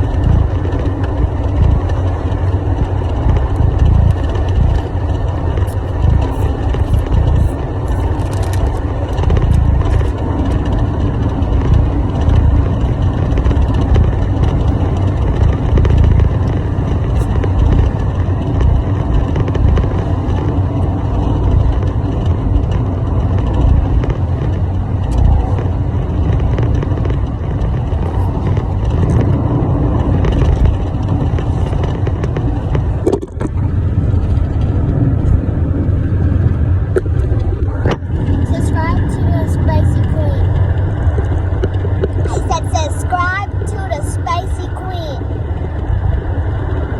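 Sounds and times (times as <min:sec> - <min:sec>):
vehicle engine rumble: 0:00.0 - 0:46.9.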